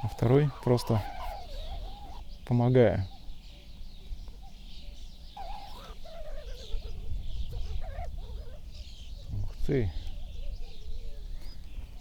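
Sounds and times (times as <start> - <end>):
birds singing and calling: 0.0 - 12.0
low rumble of wind: 0.0 - 12.0.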